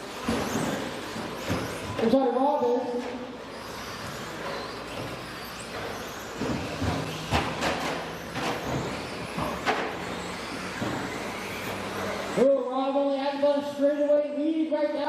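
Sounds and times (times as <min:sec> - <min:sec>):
radio-controlled trucks whirring: 0:00.0 - 0:13.2.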